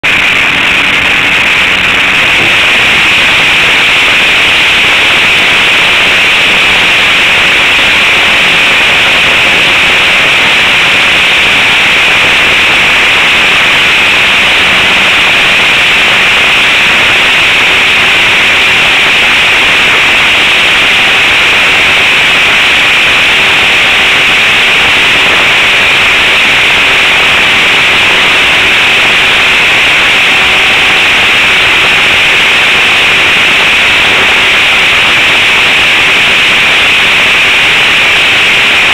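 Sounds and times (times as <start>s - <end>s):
model plane engine drone: 0.0s - 38.9s
rushing air: 0.0s - 38.9s.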